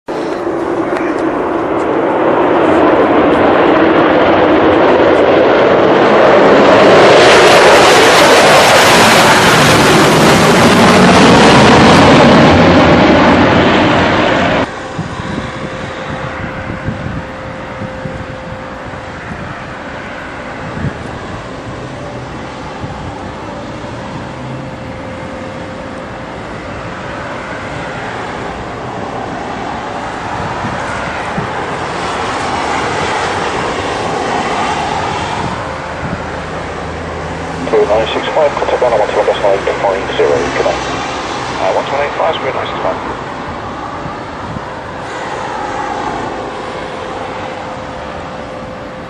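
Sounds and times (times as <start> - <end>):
jet airliner passing low: 0.1 - 49.0.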